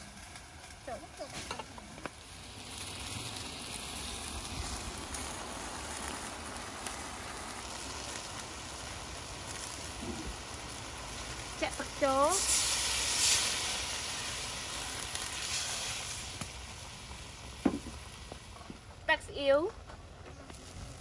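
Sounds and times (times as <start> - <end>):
pork sizzling in a wok: 0.0 - 21.0.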